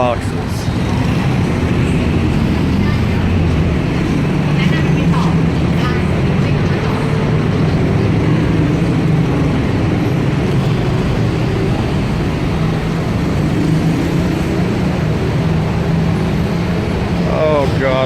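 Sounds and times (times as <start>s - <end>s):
heavy road traffic: 0.0s - 18.0s.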